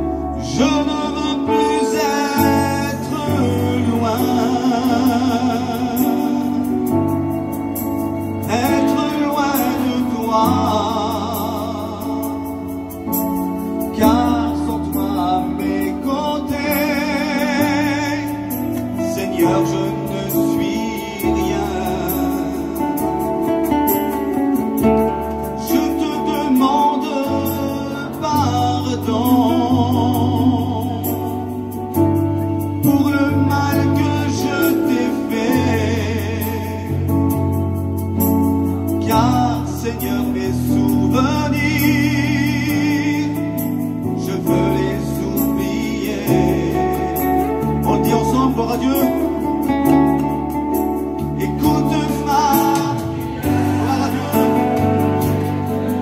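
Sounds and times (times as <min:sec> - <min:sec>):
backing chords and bass: 0:00.0 - 0:56.0
person singing: 0:00.0 - 0:56.0.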